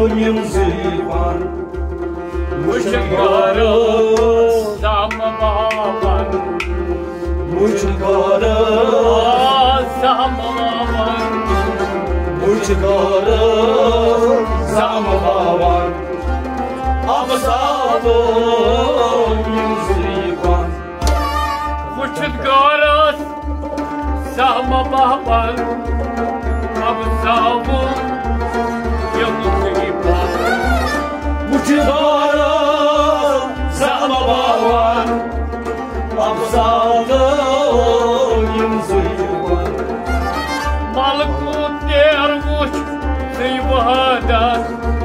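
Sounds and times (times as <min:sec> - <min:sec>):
hand drum beat: 0:00.0 - 0:45.0
harmonium melody: 0:00.0 - 0:45.0
ornamented melodic line: 0:00.0 - 0:45.0.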